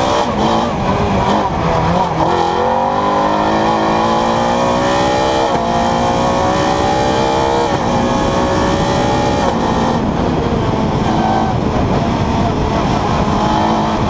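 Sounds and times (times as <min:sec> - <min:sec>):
rally car engine at full throttle: 0:00.0 - 0:14.0.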